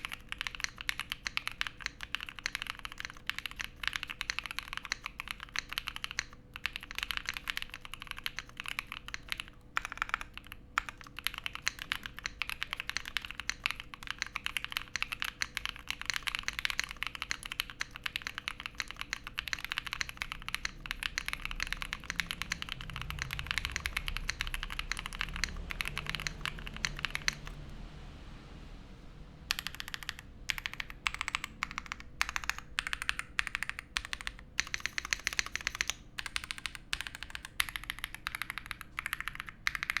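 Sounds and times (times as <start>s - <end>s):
mechanical keyboard key clacks: 0.0s - 27.5s, 29.5s - 40.0s.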